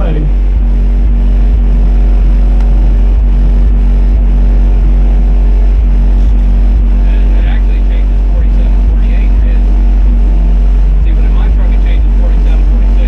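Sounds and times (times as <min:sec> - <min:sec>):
loud deep bass tone: 0:00.0 - 0:13.0.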